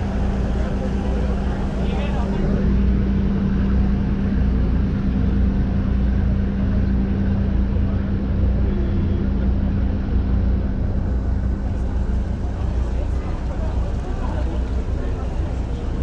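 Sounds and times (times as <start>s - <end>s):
ferry engines rumbling: 0.0s - 16.0s
steady engine hum: 0.0s - 16.0s.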